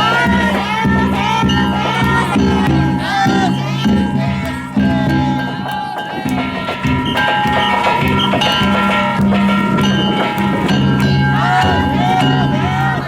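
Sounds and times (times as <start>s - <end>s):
big drum beating: 0.0s - 13.0s
voices calling: 0.0s - 13.0s
metal gongs ringing: 1.3s - 13.0s.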